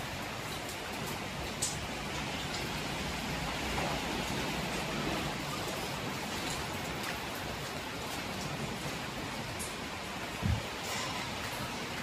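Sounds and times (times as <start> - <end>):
rain falling: 0.0 - 12.0
raindrops ticking on surfaces: 0.0 - 12.0.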